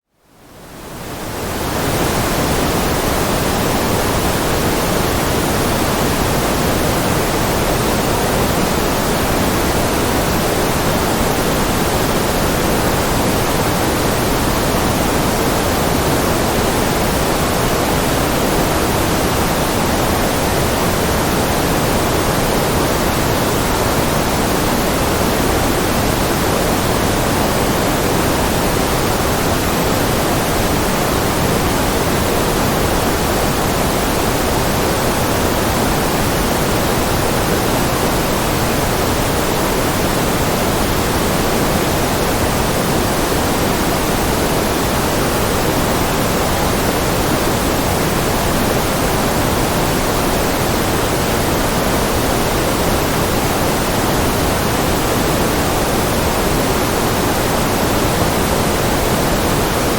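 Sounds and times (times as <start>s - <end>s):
white noise hiss: 0.1s - 59.9s.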